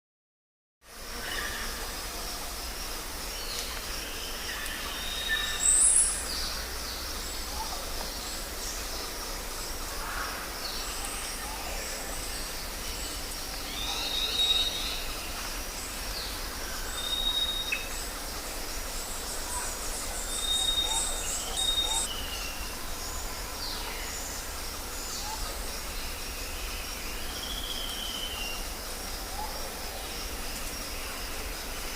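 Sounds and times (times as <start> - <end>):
background hiss and low rumble: 0.9 - 31.9
birds calling and chirping: 3.4 - 31.5.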